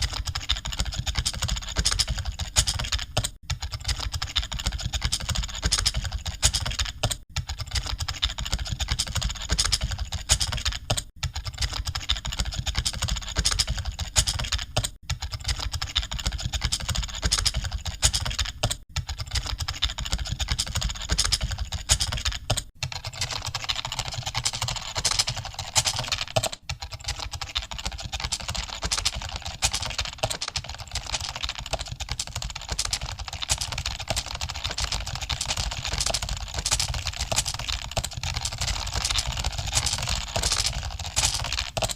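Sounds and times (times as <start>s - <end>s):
computer keyboards typing: 0.0s - 41.9s.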